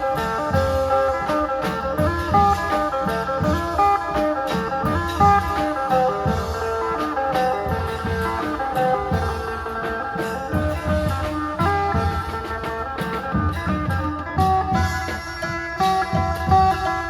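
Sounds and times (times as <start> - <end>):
plucked lute melody: 0.0 - 17.0
regular drum beat: 0.0 - 17.0.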